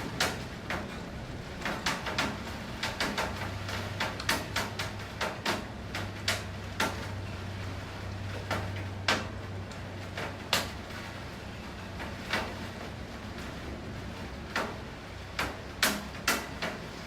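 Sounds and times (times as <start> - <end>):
faint rain hiss: 0.0 - 17.0
raindrops tapping hard surface: 0.0 - 17.0.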